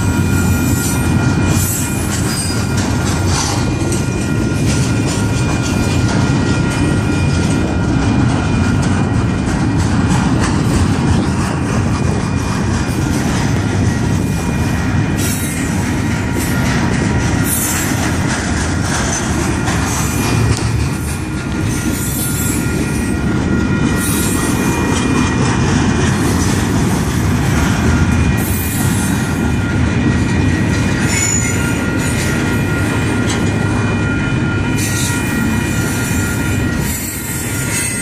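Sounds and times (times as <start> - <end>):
crossing signal bell ringing: 0.0 - 38.0
freight train wheels rumbling: 0.0 - 38.0.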